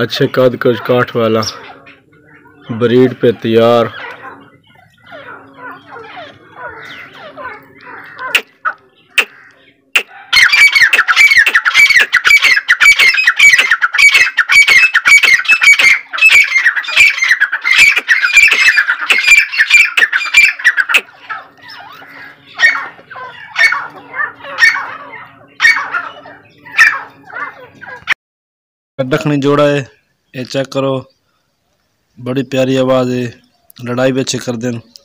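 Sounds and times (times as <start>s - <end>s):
francolins calling harshly: 0.0s - 28.1s.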